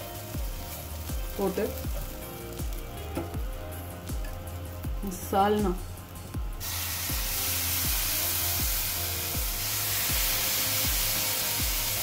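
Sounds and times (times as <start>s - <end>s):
background music with beat: 0.0s - 12.0s
gravy sizzling in hot oil: 0.0s - 12.0s.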